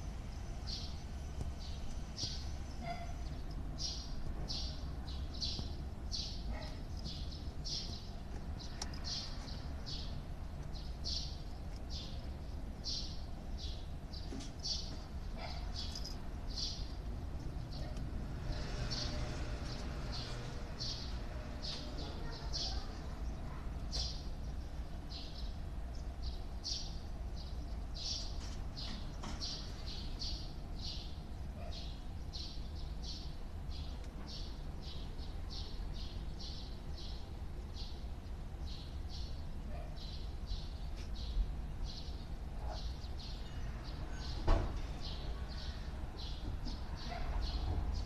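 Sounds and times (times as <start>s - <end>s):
bird chirping: 0.3s - 48.0s.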